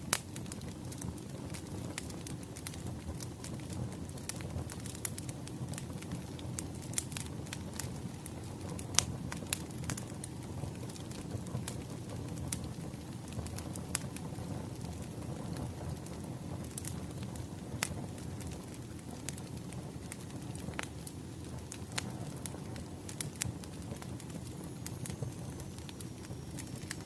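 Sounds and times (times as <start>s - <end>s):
fire pops and snaps: 0.0s - 27.0s
wood fire crackling: 0.0s - 27.0s.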